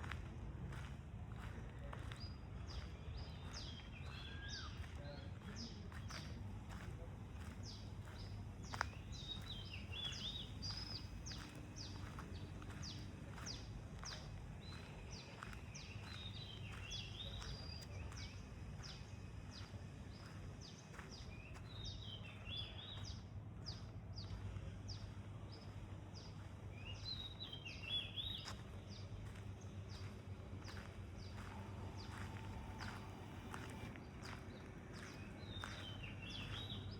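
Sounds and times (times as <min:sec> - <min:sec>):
low background rumble: 0:00.0 - 0:36.9.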